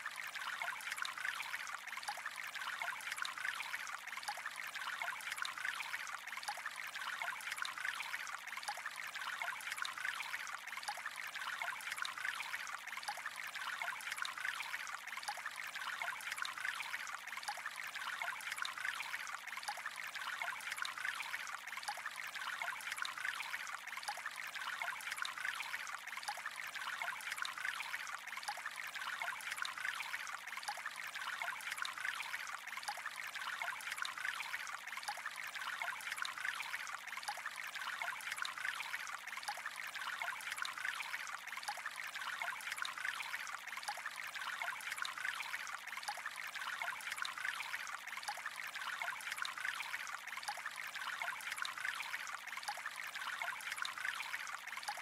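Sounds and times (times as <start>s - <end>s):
trickling water: 0.0s - 55.0s.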